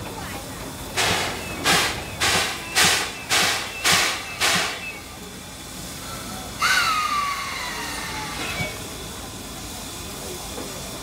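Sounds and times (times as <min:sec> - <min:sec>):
steam locomotive exhaust chuffs: 0:00.0 - 0:11.0.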